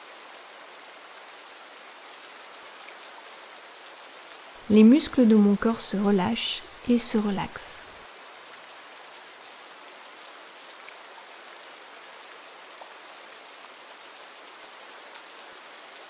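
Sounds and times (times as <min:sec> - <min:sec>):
rain falling on forest: 0:00.0 - 0:16.0.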